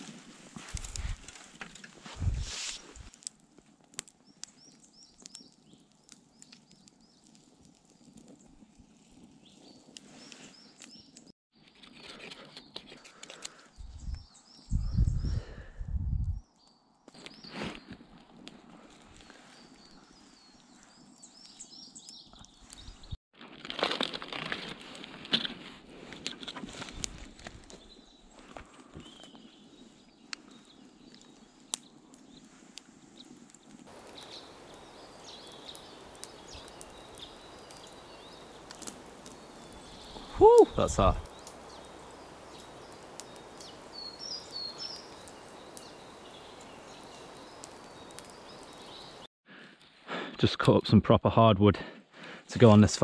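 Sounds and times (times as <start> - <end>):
campfire crackling and popping: 0.0 - 11.3, 17.1 - 49.3.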